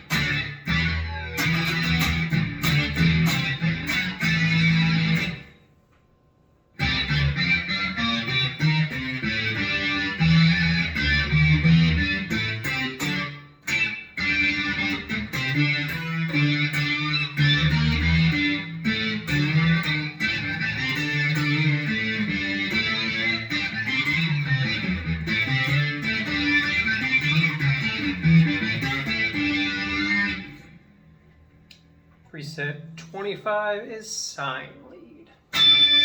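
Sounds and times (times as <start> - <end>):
synth lead guitar line: 0.0 - 5.5, 6.8 - 30.8, 35.5 - 36.0.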